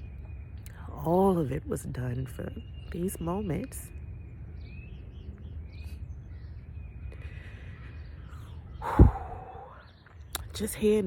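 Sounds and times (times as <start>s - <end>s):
low rumble: 0.0s - 10.4s
faint bird chirps: 2.0s - 11.0s.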